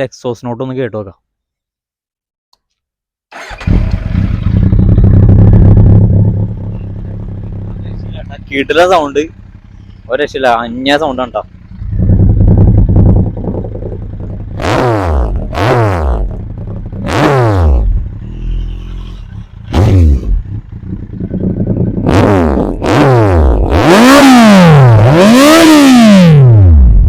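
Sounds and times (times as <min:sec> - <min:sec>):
motorcycle engine revving: 0:03.3 - 0:27.0.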